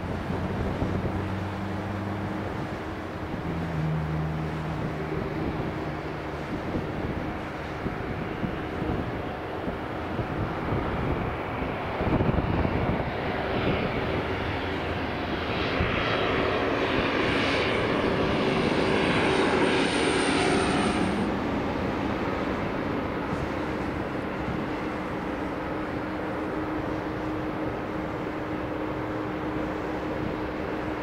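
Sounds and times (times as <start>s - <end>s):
propeller airplane flying overhead: 0.0s - 31.0s.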